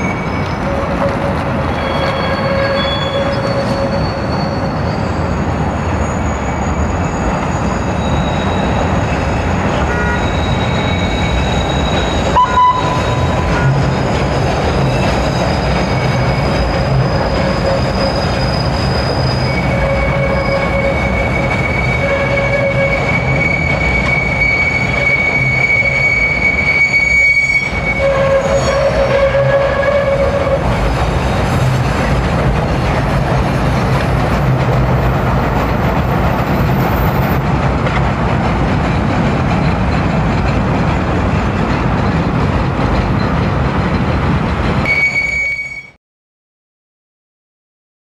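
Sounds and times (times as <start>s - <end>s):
train wheels squealing: 0.0s - 37.5s, 38.8s - 46.0s
train rumbling on rails: 0.0s - 46.0s.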